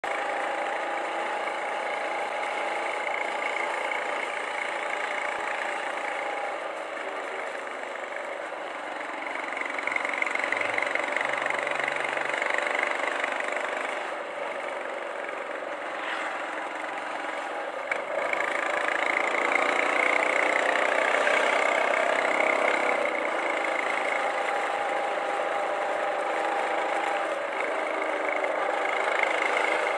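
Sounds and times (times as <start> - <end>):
motorcycle engine running: 0.0 - 29.9
road and traffic noise: 0.0 - 29.9.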